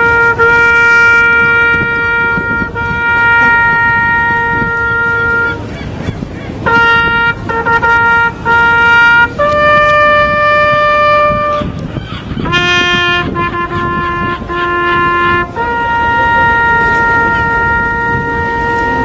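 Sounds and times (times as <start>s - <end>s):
solo trumpet bugle call: 0.0s - 5.7s, 6.6s - 11.8s, 12.4s - 19.0s.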